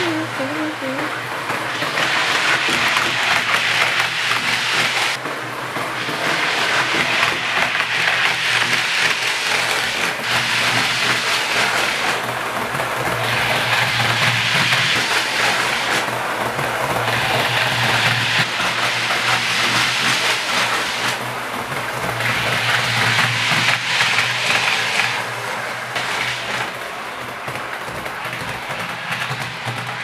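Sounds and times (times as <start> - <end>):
model trains whirring on track: 0.0 - 30.0.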